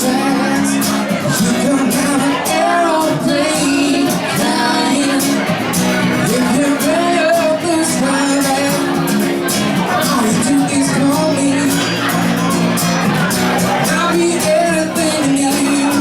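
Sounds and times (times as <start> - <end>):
live band playing pop-funk: 0.0 - 16.0.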